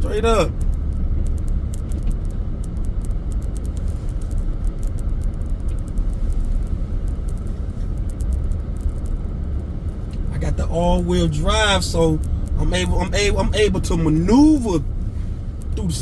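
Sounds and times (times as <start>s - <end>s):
light clicks and crackles: 0.0s - 16.0s
tyres and engine rumble: 0.0s - 16.0s.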